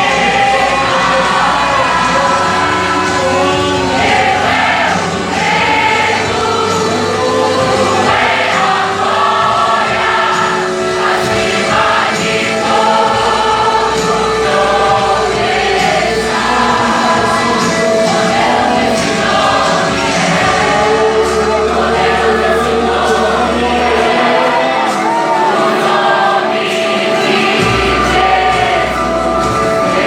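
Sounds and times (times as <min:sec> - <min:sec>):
choir singing worship song: 0:00.0 - 0:30.0
instrumental accompaniment: 0:00.0 - 0:30.0.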